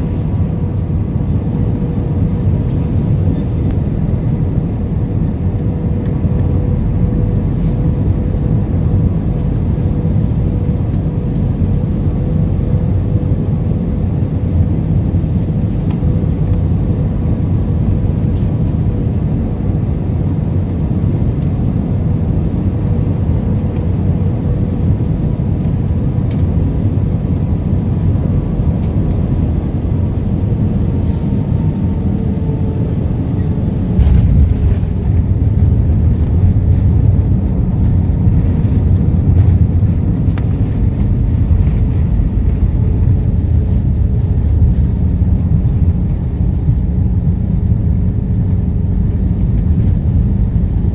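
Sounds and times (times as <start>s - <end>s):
jet engine and airflow rumble: 0.0s - 50.9s.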